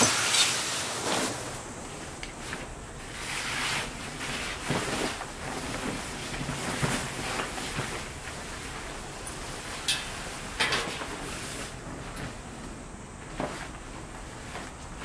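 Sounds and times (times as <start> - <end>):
fabric tarp rustling and swishing: 0.0 - 15.0.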